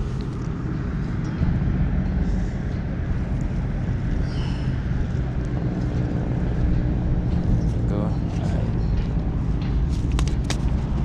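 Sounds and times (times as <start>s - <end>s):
engine humming: 0.0s - 11.0s
low rumble of wind or traffic: 0.0s - 11.0s.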